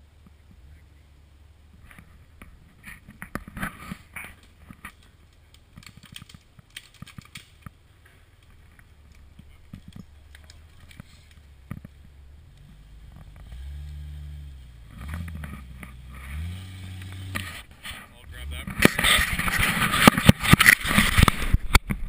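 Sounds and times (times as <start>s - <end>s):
branches cracking: 1.7s - 22.0s.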